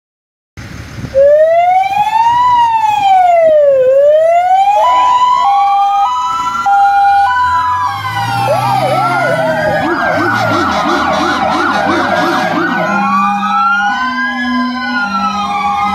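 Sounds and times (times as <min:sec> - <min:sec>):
two-tone hi-lo siren: 0:01.2 - 0:15.9
wailing siren: 0:01.2 - 0:15.9.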